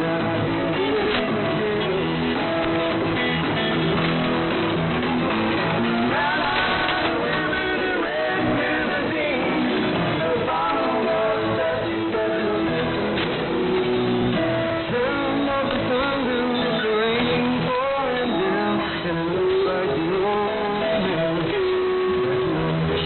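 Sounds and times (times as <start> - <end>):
strummed guitar and singing over radio: 0.0 - 23.0.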